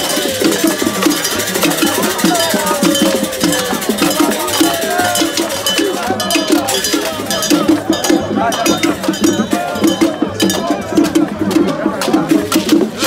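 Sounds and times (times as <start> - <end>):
drum beat: 0.0 - 13.0
metal bells struck in rhythm: 0.0 - 13.0.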